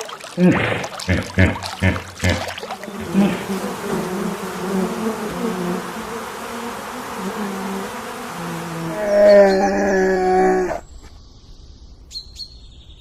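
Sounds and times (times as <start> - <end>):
bees buzzing: 0.0 - 10.8.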